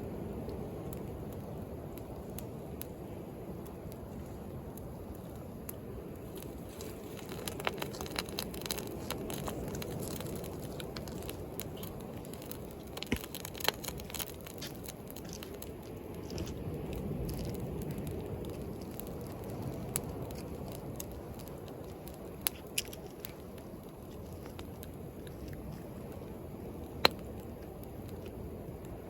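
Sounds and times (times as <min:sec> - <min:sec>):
bonfire crackling and popping: 0:00.0 - 0:29.0.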